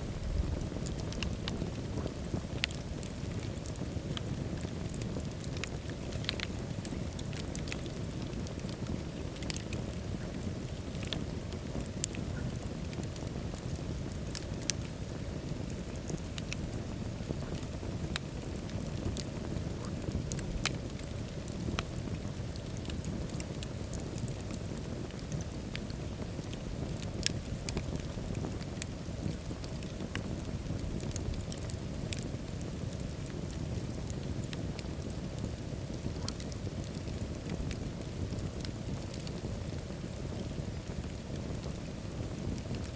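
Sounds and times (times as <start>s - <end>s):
fire crackling and popping: 0.0s - 42.9s
fire rumbling: 0.0s - 42.9s.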